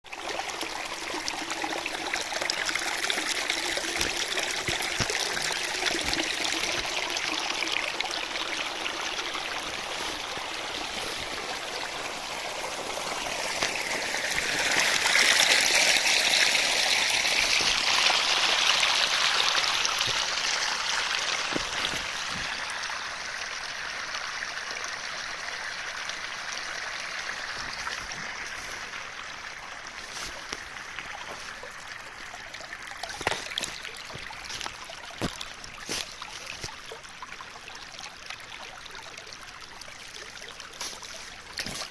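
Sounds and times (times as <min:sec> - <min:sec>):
stream water rushing: 0:00.1 - 0:41.9.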